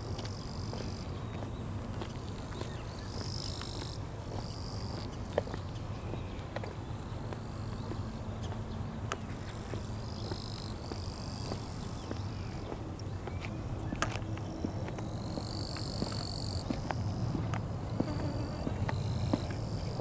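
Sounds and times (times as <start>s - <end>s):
insects buzzing trills: 0.0s - 20.0s.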